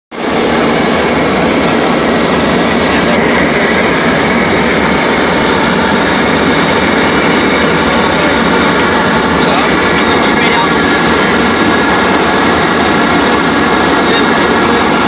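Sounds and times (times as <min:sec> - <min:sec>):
aircraft cabin drone: 0:00.1 - 0:15.0.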